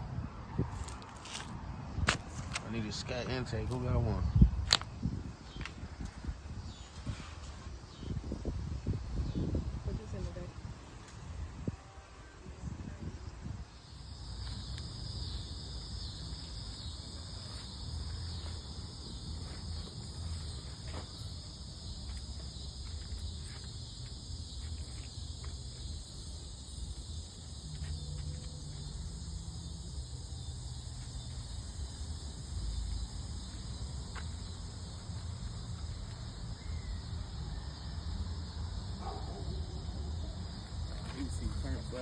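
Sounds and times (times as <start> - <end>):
constant high chirr: 2.6 - 42.0.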